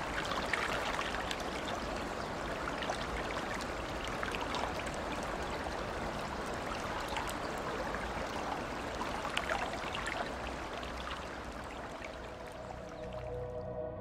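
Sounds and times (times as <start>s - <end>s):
river water running over rocks: 0.0s - 13.3s.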